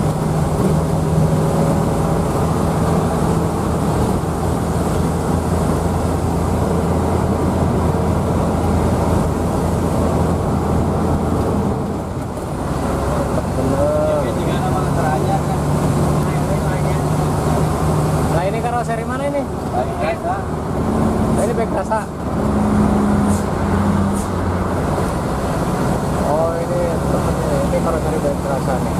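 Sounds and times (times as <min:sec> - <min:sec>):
bus engine and road noise: 0:00.0 - 0:28.9.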